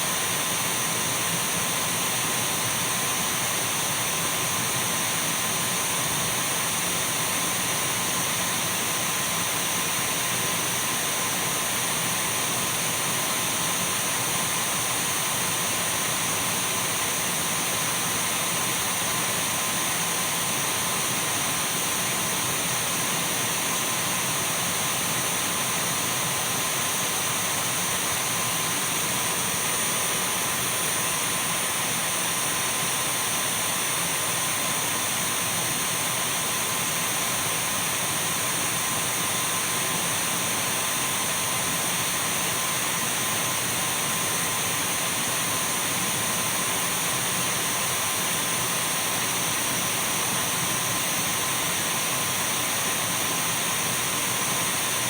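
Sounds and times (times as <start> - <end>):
cordless vacuum running: 0.0 - 55.0.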